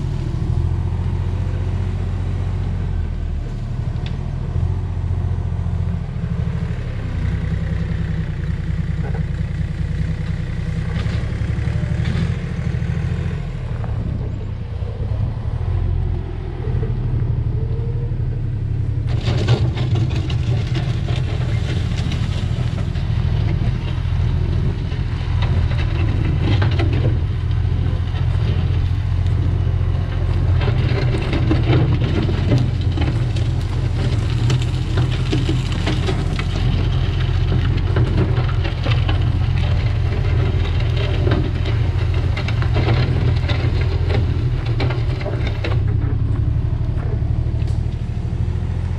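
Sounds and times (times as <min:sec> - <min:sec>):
earth-moving machine engine: 0:00.0 - 0:48.9
harsh full engine noise: 0:00.0 - 0:48.9.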